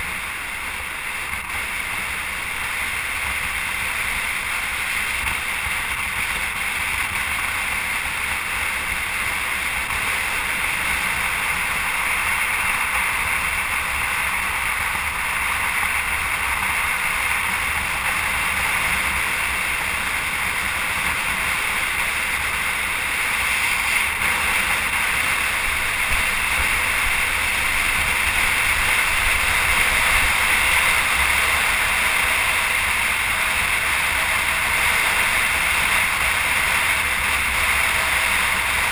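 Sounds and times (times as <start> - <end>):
road noise: 0.0 - 38.9
rushing wind: 0.0 - 38.9.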